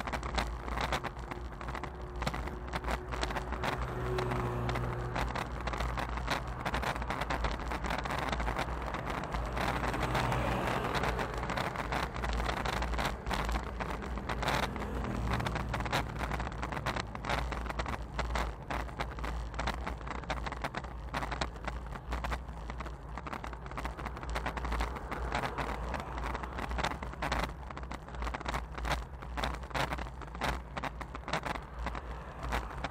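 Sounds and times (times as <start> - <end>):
cars passing: 0.0 - 32.9
wind rumble on camera: 0.0 - 32.9.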